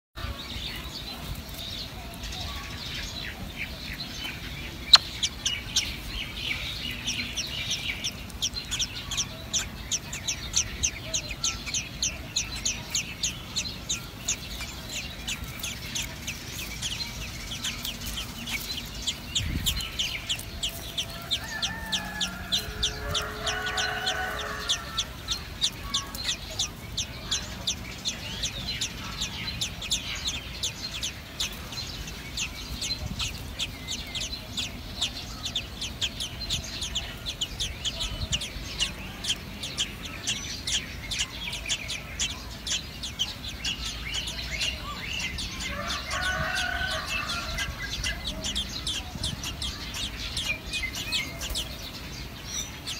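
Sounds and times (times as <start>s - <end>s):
birds sharp clicking calls: 0.2s - 52.9s.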